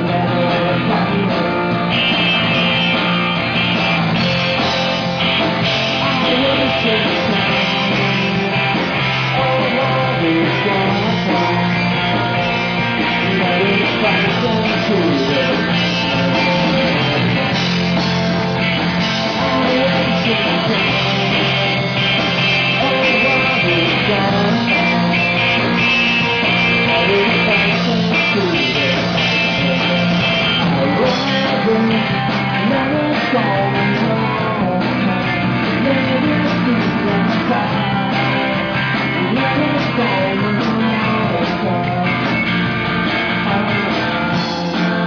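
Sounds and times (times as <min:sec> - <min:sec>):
live rock band with guitars: 0:00.0 - 0:45.0.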